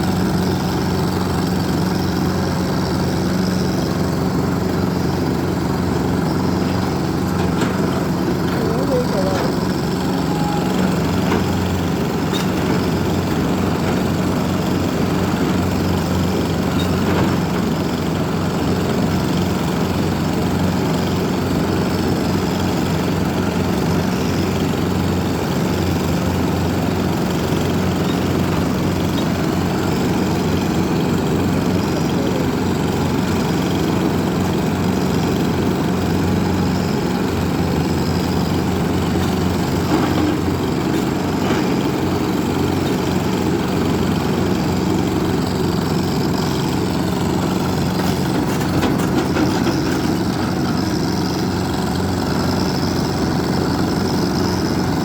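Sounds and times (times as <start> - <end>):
diesel engine humming: 0.0 - 55.0.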